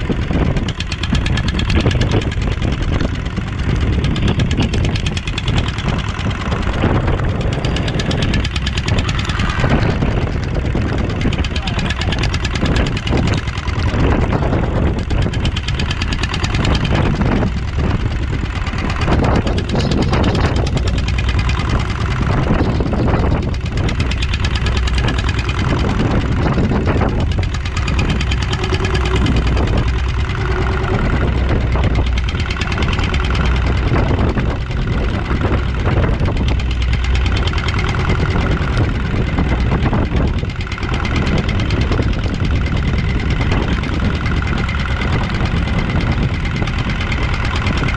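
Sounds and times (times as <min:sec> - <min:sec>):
boat engine running: 0:00.0 - 0:47.9
water noise: 0:00.0 - 0:47.9
wind: 0:00.0 - 0:47.9.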